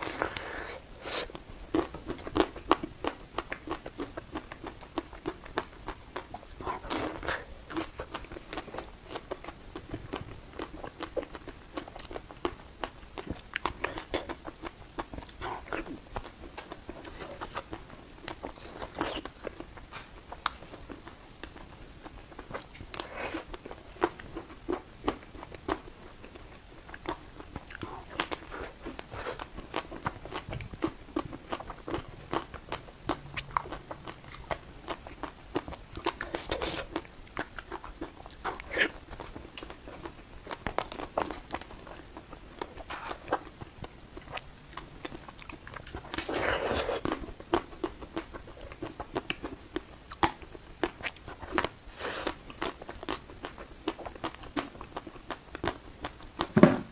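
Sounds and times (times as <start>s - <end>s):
crunchy chewing of frozen ice cream: 0.0s - 56.6s.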